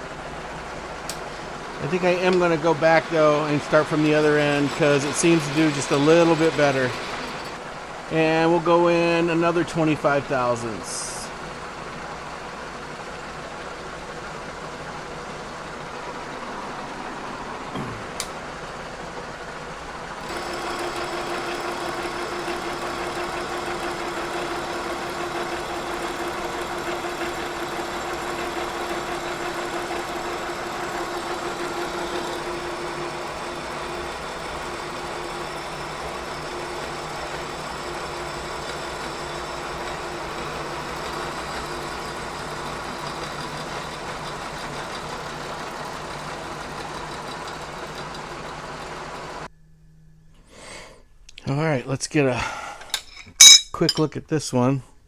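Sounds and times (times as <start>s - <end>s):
milling machine running: 0.0s - 10.0s, 11.0s - 49.5s.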